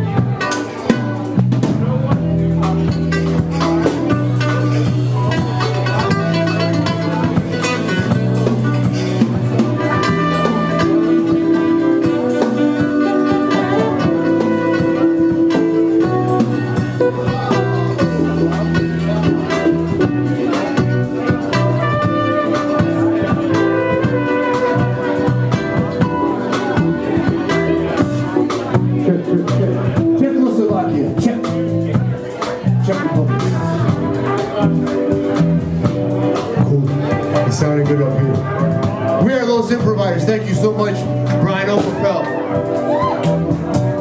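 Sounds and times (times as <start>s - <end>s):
live band playing instrumental: 0.0s - 44.0s.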